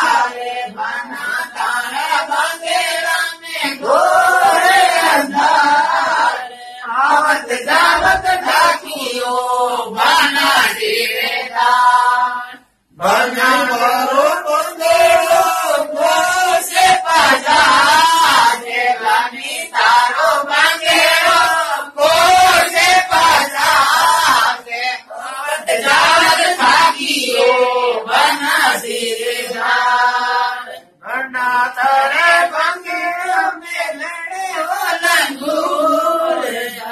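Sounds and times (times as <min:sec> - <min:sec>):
chant-like singing voice: 0:00.0 - 0:36.9.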